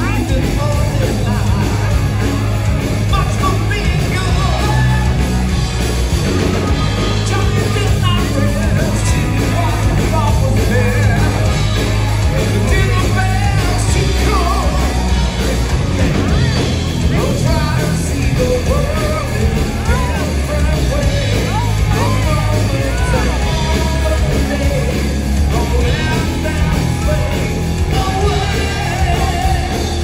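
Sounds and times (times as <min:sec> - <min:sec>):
man singing: 0:00.0 - 0:05.5, 0:06.6 - 0:30.0
bass guitar: 0:00.0 - 0:30.0
drums: 0:00.0 - 0:30.0
electric guitars: 0:00.0 - 0:30.0.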